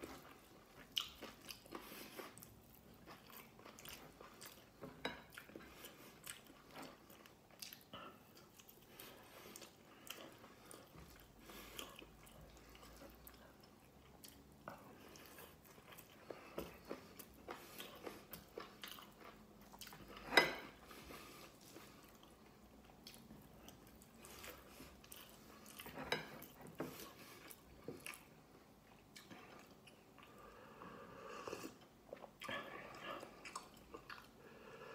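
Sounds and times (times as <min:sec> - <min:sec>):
person chewing food: 0:00.0 - 0:34.9.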